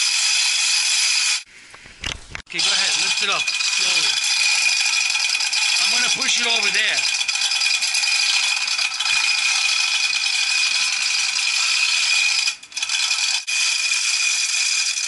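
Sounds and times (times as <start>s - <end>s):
steel chain rattling through hoist: 0.0s - 1.4s, 2.5s - 15.0s.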